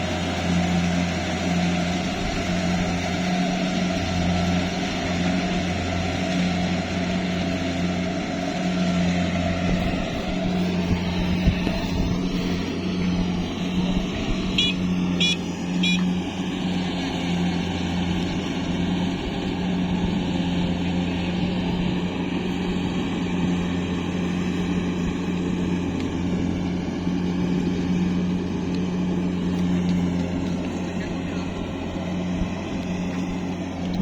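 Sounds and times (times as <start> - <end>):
diesel engine running steadily: 0.0 - 34.0.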